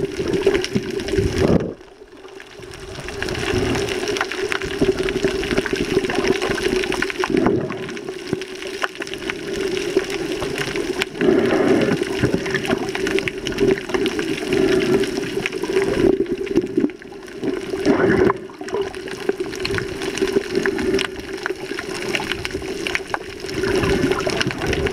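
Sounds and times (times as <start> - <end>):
muffled underwater rush: 0.0 - 24.9.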